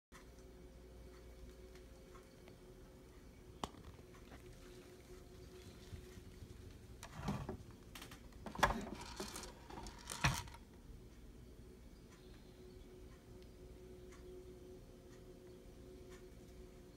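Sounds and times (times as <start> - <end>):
faint steady hum: 0.1 - 16.9.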